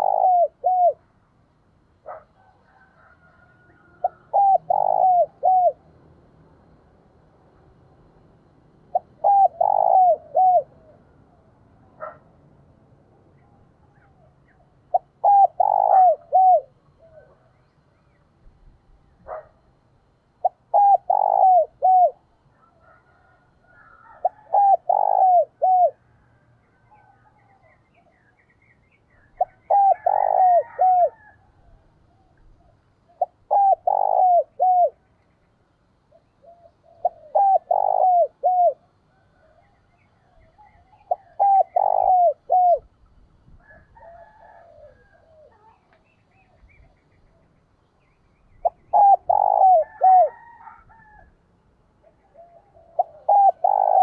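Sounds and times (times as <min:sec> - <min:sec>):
dove cooing: 0:00.0 - 0:01.3, 0:01.9 - 0:06.8, 0:08.1 - 0:12.3, 0:13.3 - 0:17.7, 0:18.8 - 0:28.3, 0:29.1 - 0:35.1, 0:35.9 - 0:47.6, 0:48.5 - 0:54.0.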